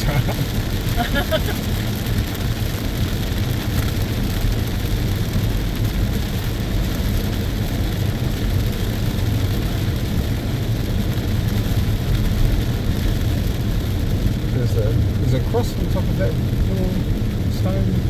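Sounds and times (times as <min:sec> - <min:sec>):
engine and tyre drone: 0:00.0 - 0:18.0
hiss of rain and wet road: 0:00.0 - 0:18.0.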